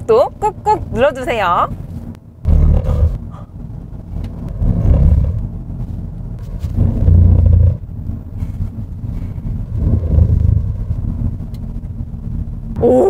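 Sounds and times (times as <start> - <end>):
car road rumble inside cabin: 0.0 - 13.0.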